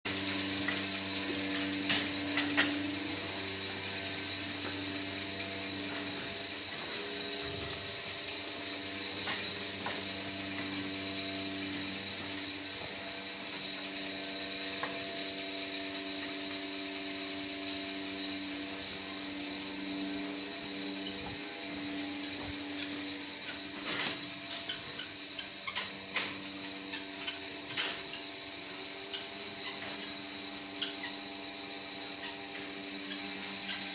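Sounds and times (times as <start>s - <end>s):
steady mechanical hum: 0.1s - 33.9s.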